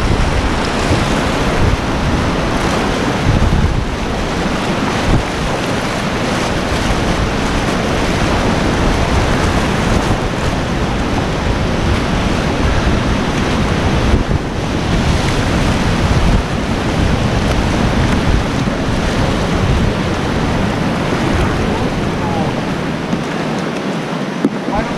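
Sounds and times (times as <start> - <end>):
whitewater rapids rushing: 0.0 - 24.9
wind buffeting microphone: 0.0 - 24.9.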